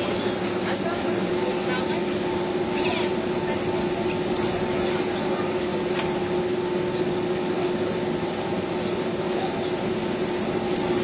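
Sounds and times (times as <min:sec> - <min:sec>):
jet engines rushing hum: 0:00.0 - 0:11.0.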